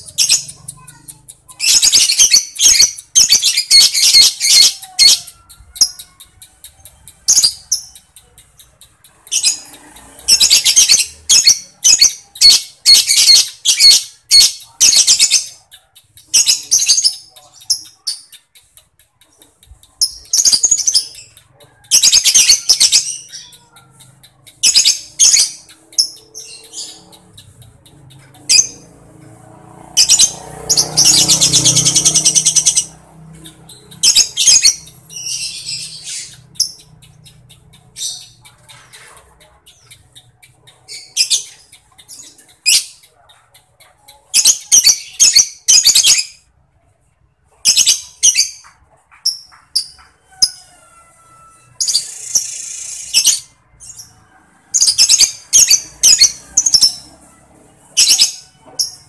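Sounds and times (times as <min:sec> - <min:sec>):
lovebirds chattering: 0:00.0 - 0:46.6, 0:47.3 - 0:59.0.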